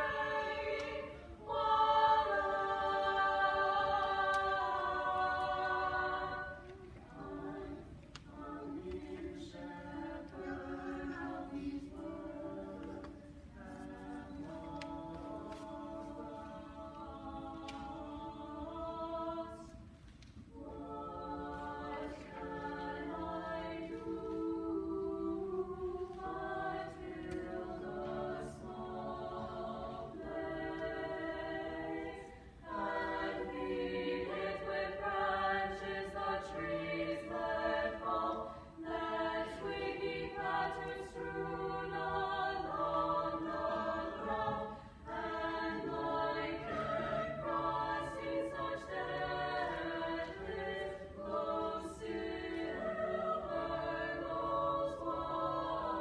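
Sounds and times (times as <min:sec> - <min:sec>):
vocal ensemble singing a cappella: 0:00.0 - 0:56.0.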